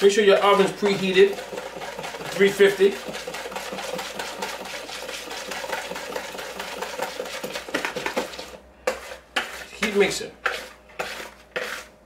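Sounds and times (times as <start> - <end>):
whisk beating batter in plastic bowl: 0.0 - 12.0.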